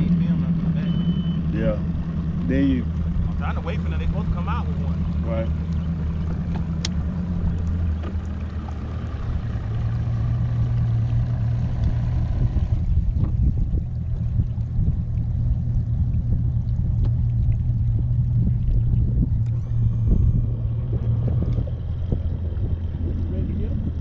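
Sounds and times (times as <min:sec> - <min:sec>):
outboard motor idling: 0:00.0 - 0:24.0.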